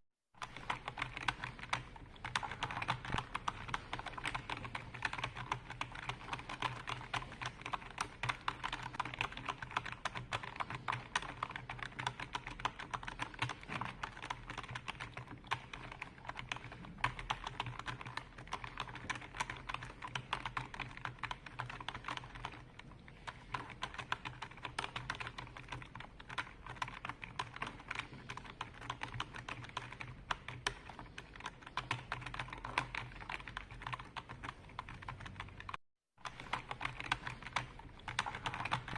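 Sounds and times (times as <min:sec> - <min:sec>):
typing on computer keyboard: 0:00.4 - 0:38.9.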